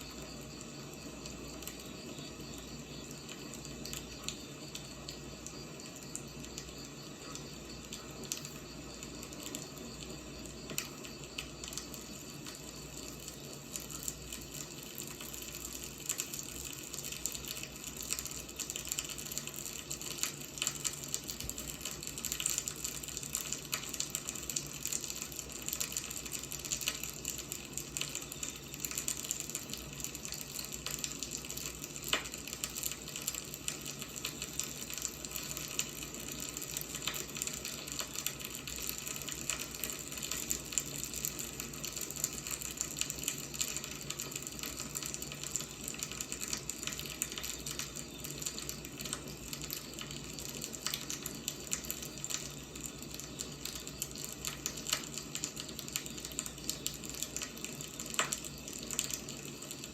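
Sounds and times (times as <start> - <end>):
firewood burning with crackles: 0.0 - 59.9.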